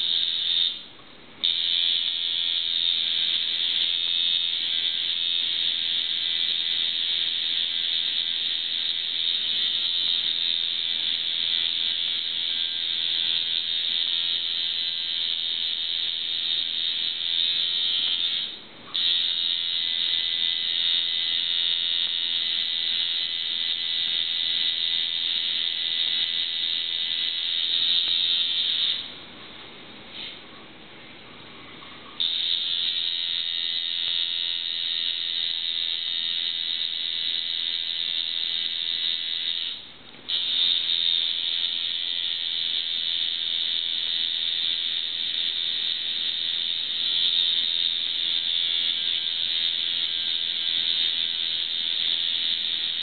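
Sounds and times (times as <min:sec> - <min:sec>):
tattoo machine buzzing: 0:00.0 - 0:00.8, 0:01.4 - 0:29.1, 0:32.2 - 0:53.0.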